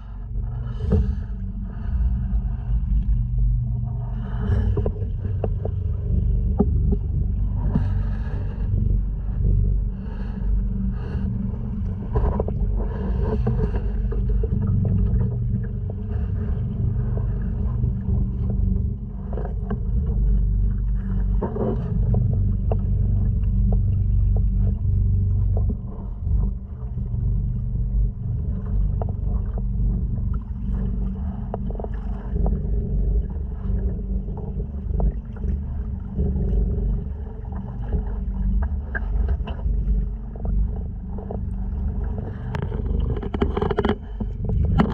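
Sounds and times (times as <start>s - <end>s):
outboard motor running: 0.0s - 44.9s
water splashing against hull: 0.0s - 44.9s.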